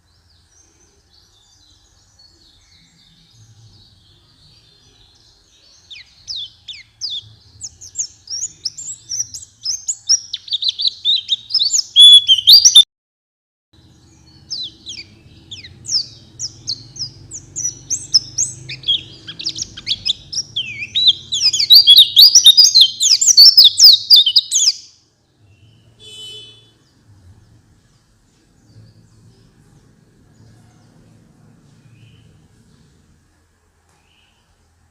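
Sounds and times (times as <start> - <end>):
bird high twittering song: 0.0 - 12.8, 13.8 - 31.1.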